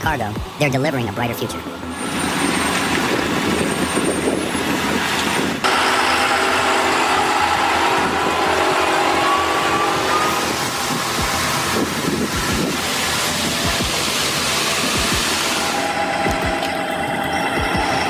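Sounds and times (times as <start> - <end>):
truck engine under load: 0.0 - 18.0.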